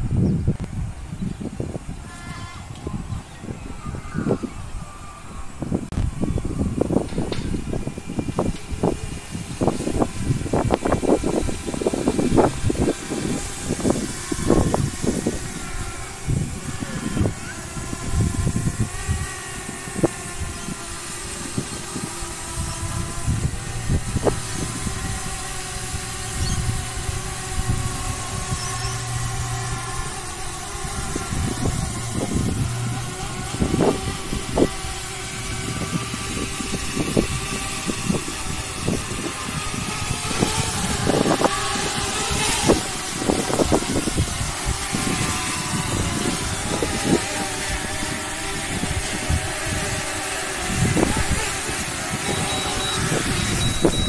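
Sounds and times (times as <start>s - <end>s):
drone propellers buzzing: 0.0s - 54.0s
wind knocking on microphone: 5.7s - 54.0s.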